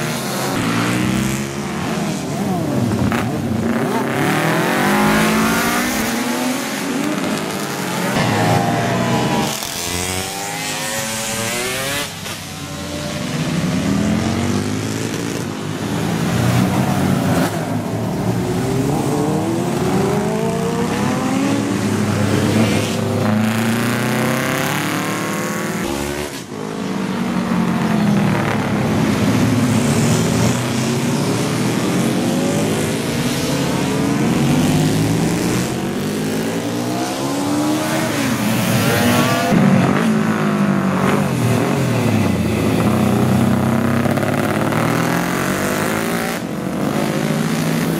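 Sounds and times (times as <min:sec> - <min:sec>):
racing motorcycles passing by: 0:00.0 - 0:47.9.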